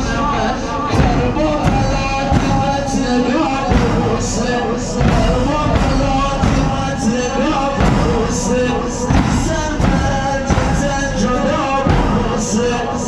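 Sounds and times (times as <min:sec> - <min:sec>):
bass drums beating: 0:00.0 - 0:13.0
person singing a mourning chant: 0:00.0 - 0:13.0.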